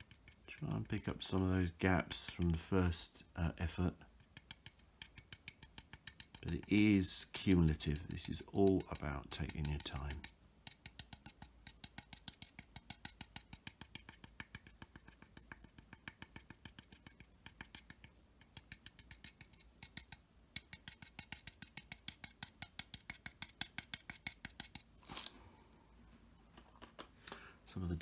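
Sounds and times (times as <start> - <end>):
paintbrush tapping on plastic: 0.0 - 24.9.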